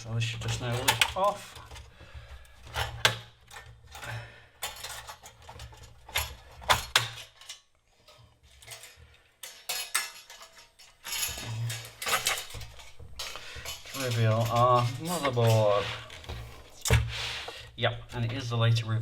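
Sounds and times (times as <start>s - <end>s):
metal shield clinking and rattling: 0.0s - 17.1s.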